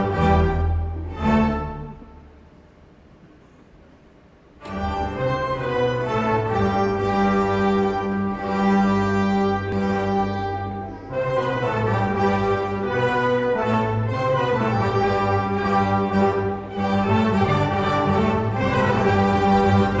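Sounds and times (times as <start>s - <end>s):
brass: 0.0s - 2.1s, 4.6s - 20.0s
strings: 0.0s - 2.5s, 4.6s - 20.0s.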